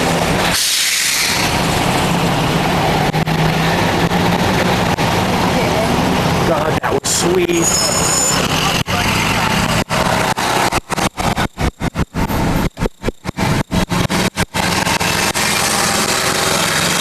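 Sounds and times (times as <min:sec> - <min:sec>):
army trucks passing: 0:00.0 - 0:17.0.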